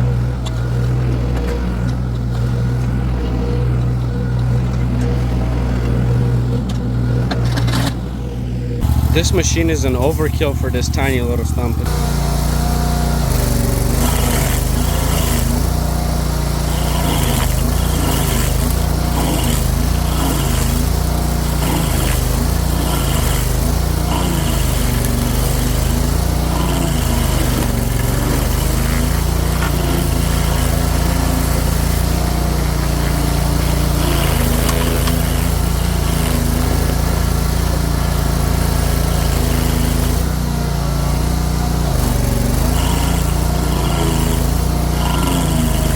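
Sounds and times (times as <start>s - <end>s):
gas engine running: 0.0s - 45.9s
cutter hissing: 8.8s - 45.9s.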